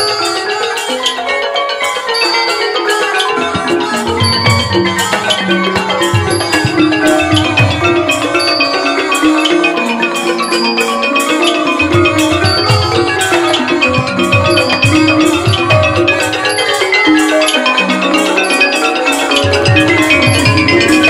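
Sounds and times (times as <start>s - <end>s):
xylophone and gong circle melody: 0.0s - 21.0s.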